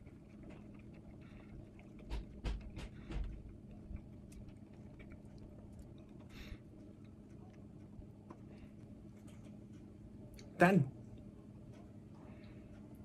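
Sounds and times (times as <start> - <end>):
faint chewing: 0.0 - 13.0
low steady hum: 0.0 - 13.0.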